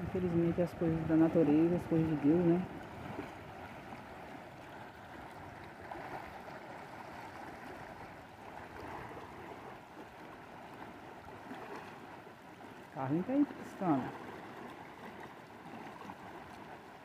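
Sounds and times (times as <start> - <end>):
rushing river water: 0.0 - 17.0.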